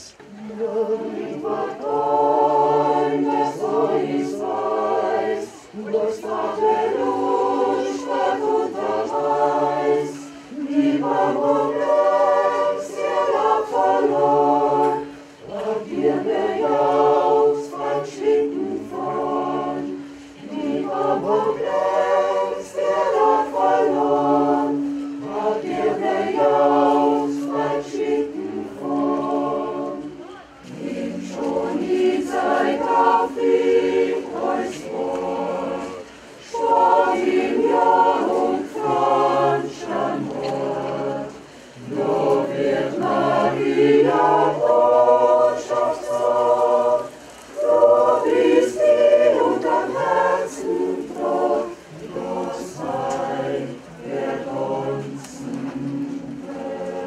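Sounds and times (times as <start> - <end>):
mixed choir singing a cappella: 0.0 - 57.0.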